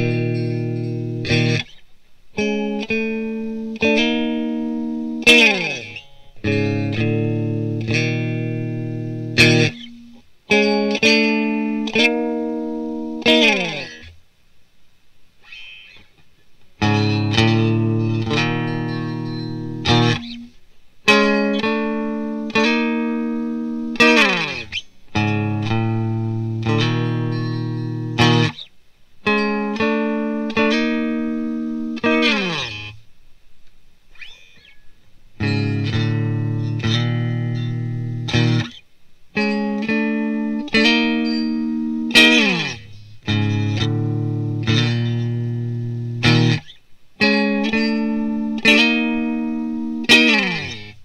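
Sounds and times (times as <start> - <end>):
electric guitar chords: 0.0 - 14.2, 16.8 - 33.0, 35.4 - 51.0.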